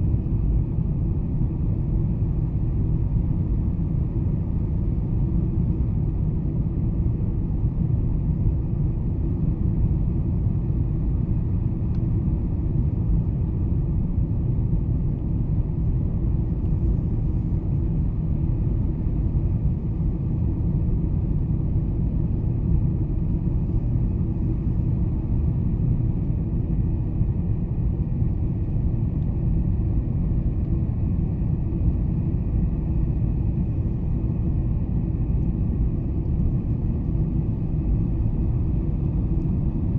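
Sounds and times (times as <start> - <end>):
airplane cabin engine rumble: 0.0 - 39.9
faint high hum: 0.0 - 39.9.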